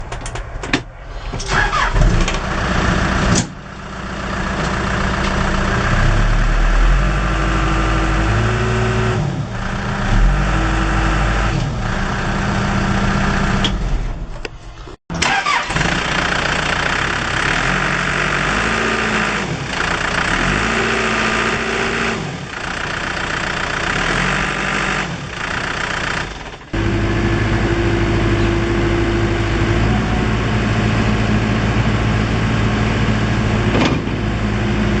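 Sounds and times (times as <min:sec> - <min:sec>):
diesel engine revving: 0:01.0 - 0:35.0.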